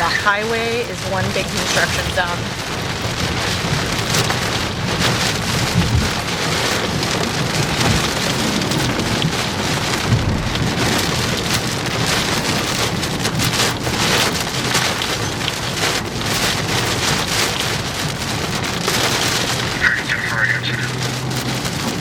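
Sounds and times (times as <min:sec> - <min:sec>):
heavy rain on a car: 0:00.0 - 0:22.0
low road noise: 0:00.0 - 0:22.0.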